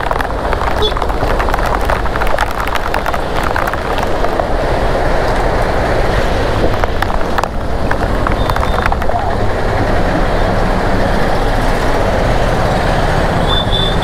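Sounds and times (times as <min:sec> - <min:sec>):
heavy rain downpour: 0:00.0 - 0:14.0.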